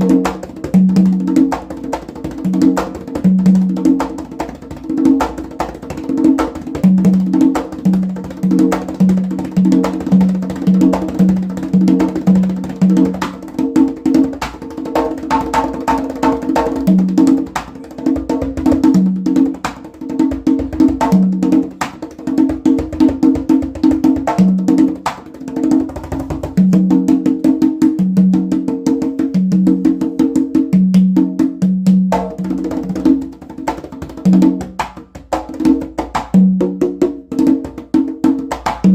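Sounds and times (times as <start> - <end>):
sharp drum slaps: 0.0 - 28.8, 29.4 - 38.9
congas played by hand: 0.0 - 38.9.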